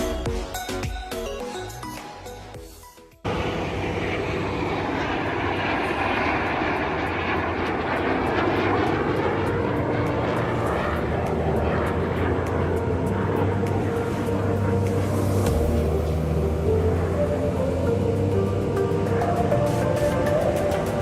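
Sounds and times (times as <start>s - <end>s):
aircraft engine noise: 3.2s - 21.0s.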